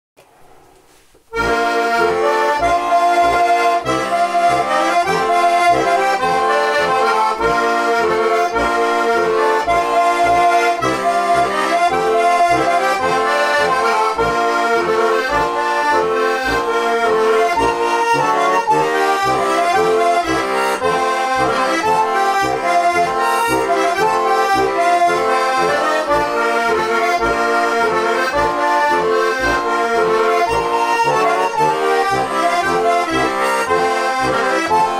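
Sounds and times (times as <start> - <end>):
button accordion folk tune: 1.3 - 34.9.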